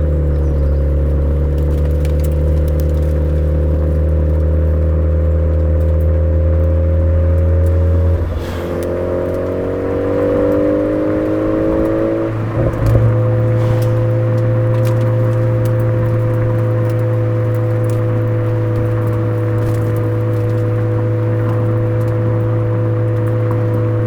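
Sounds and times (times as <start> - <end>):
car engine through exhaust: 0.0 - 24.0.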